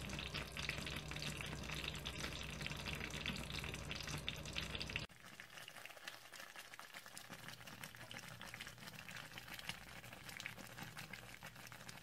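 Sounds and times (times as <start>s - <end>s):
stew bubbling with small pops: 0.0s - 12.0s.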